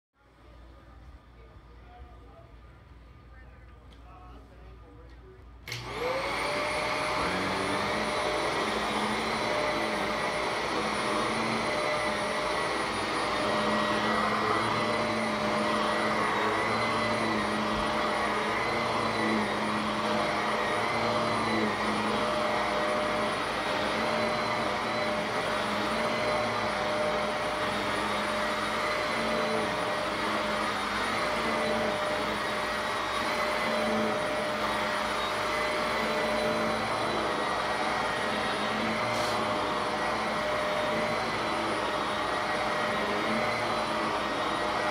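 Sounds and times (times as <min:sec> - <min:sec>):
vacuum cleaner running: 0:05.6 - 0:44.9.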